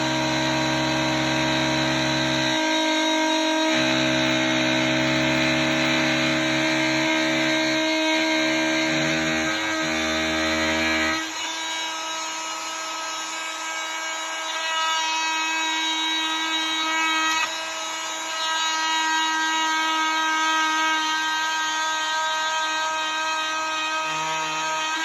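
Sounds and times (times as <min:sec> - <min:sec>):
oscillating multi-tool whine: 0:00.0 - 0:25.0.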